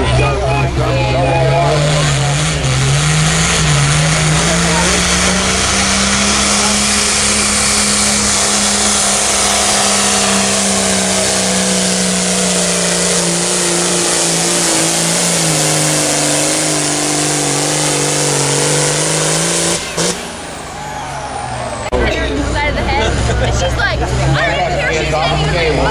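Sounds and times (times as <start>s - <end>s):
tractor engine under heavy load: 0.0s - 25.9s.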